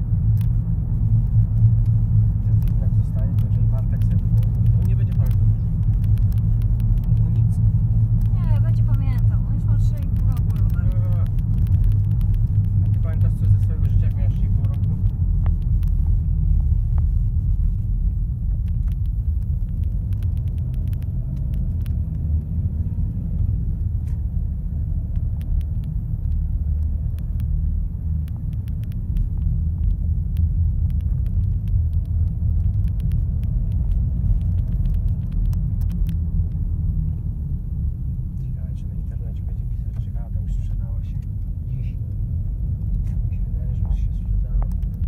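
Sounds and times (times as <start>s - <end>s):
car cabin rumble: 0.0s - 45.0s
faint clicks: 1.2s - 22.5s, 25.1s - 37.3s, 39.0s - 45.0s.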